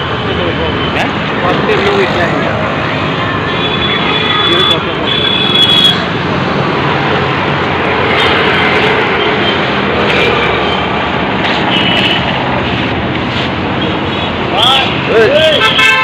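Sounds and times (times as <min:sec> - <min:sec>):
busy street traffic: 0:00.0 - 0:16.0.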